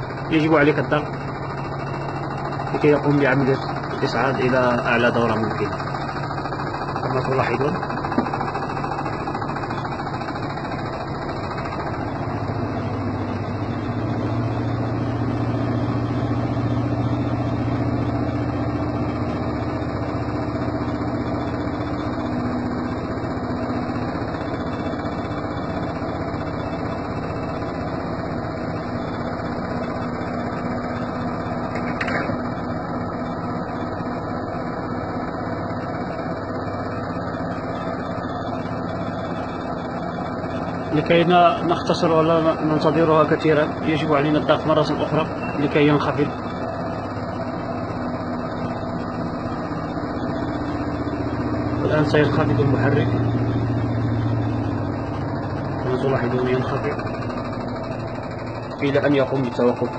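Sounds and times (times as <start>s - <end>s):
washing machine drum spinning: 0.0s - 59.9s.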